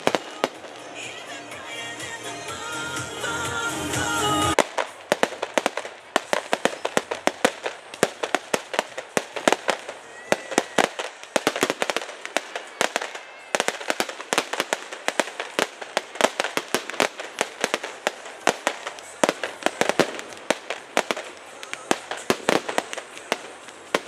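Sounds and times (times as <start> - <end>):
fireworks cracking and banging: 0.0 - 24.0.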